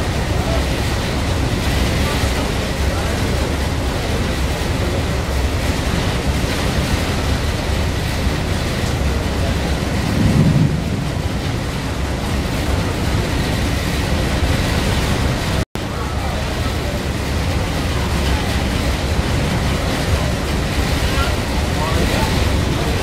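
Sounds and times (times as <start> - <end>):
boat engine: 0.0 - 23.0
wind: 0.0 - 23.0.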